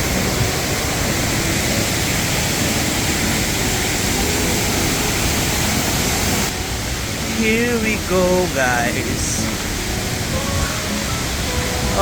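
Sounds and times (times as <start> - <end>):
waterfall crashing: 0.0 - 12.0.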